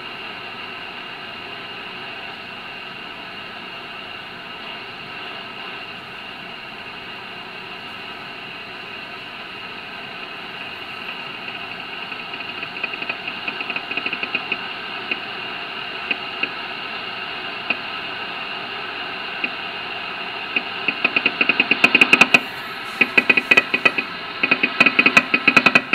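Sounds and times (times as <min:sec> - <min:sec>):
radio band noise hiss: 0:00.0 - 0:25.9
faint steady radio tones: 0:00.8 - 0:25.9
static crackles: 0:04.6 - 0:25.9.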